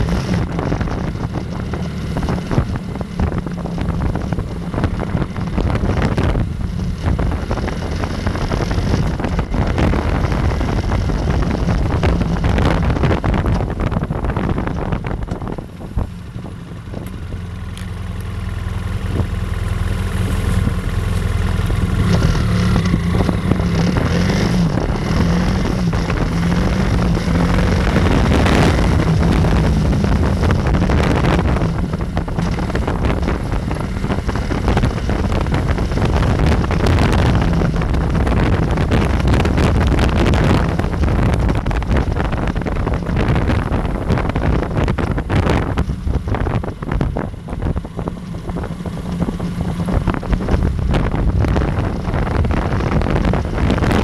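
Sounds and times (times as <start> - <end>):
wind buffeting microphone: 0.0 - 18.1, 18.8 - 54.0
motorbike engine running: 0.0 - 54.0.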